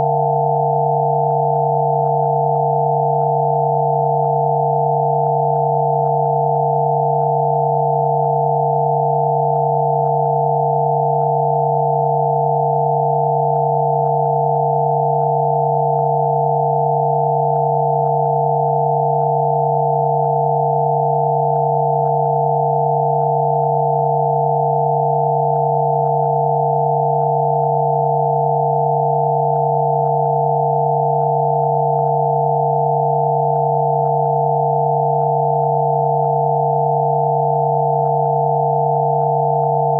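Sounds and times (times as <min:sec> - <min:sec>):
electronic sine tones: 0:00.0 - 0:39.9.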